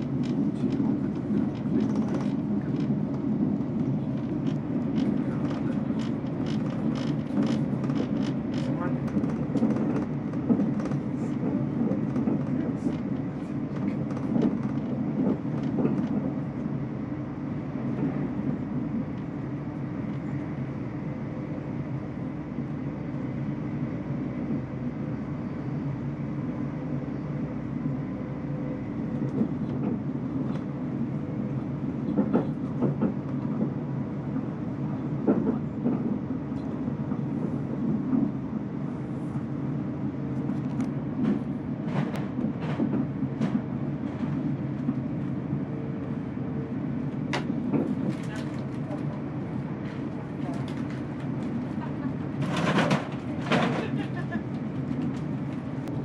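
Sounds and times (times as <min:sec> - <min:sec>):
train running rumble: 0:00.0 - 0:56.0.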